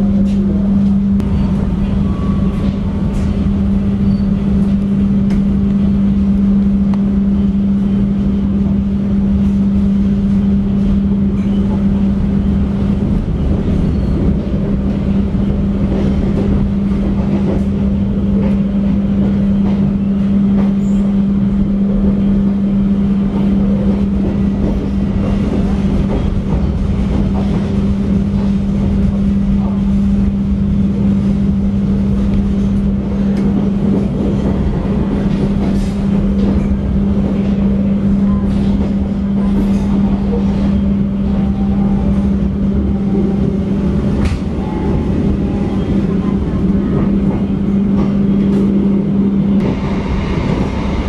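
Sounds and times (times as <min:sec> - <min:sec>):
train coach hum: 0:00.0 - 0:51.0
train rumble: 0:00.0 - 0:51.0.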